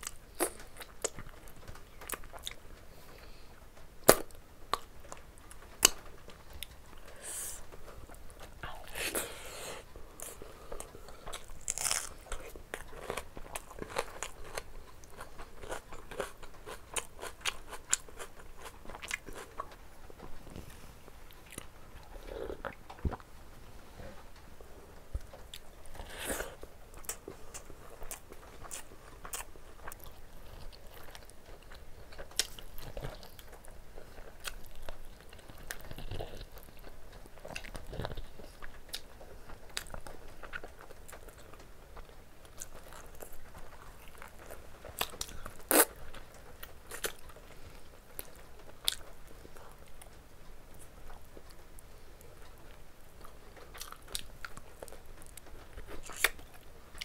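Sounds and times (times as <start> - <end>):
person chewing food: 0.0 - 3.4, 4.0 - 23.3, 25.0 - 57.0.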